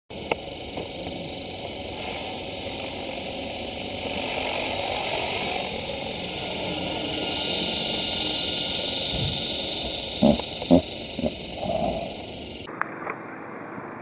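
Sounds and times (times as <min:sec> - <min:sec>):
model helicopter rotor whirring: 0:00.1 - 0:12.7.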